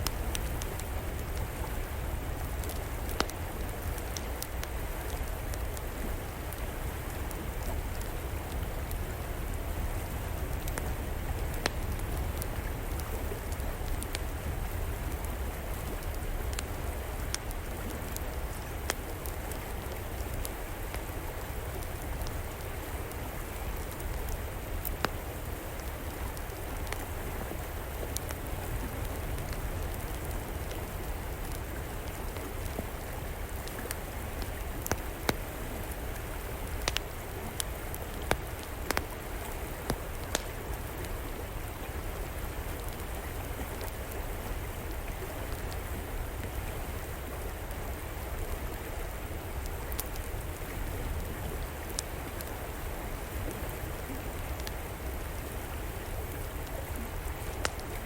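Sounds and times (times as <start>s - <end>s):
river flowing: 0.0s - 58.0s
wood fire crackling: 0.0s - 58.0s.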